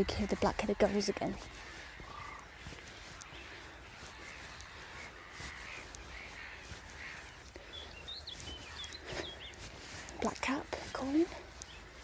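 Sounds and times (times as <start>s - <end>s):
gulls calling: 0.0s - 12.0s
wind rumble on microphone: 0.0s - 12.0s.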